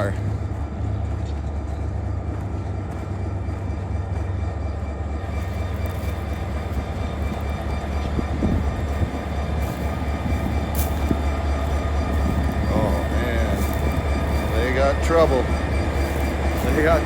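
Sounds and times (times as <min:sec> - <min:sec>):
diesel locomotive idling: 0:00.0 - 0:17.0
faint steady whining tones: 0:00.0 - 0:17.0.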